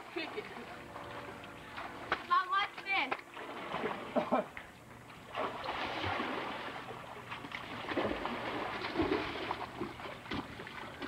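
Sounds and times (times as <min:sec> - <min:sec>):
water sloshing from swimmers: 0:00.0 - 0:11.0.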